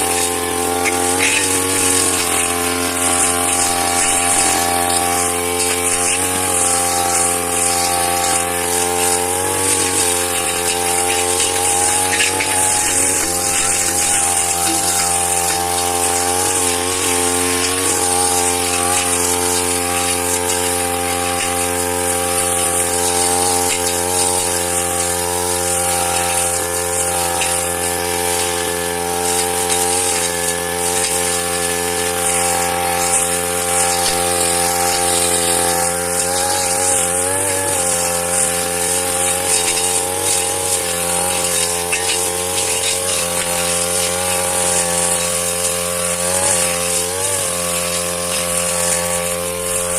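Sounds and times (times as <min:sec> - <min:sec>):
grass cutter engine running: 0:00.0 - 0:49.9.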